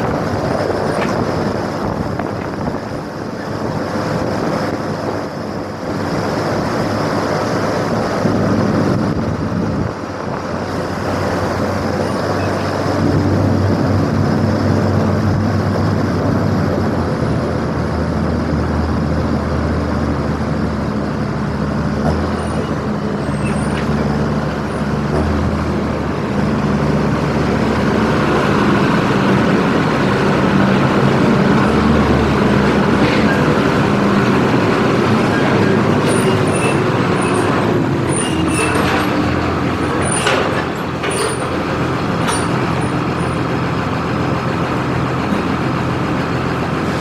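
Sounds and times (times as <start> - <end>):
road noise: 0.0 - 47.0
truck engine running: 0.0 - 47.0.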